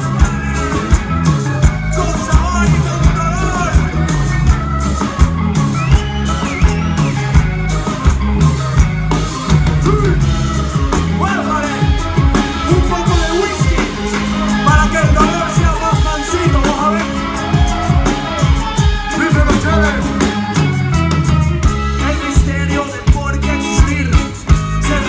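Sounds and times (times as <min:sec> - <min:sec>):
live band playing: 0:00.0 - 0:25.0.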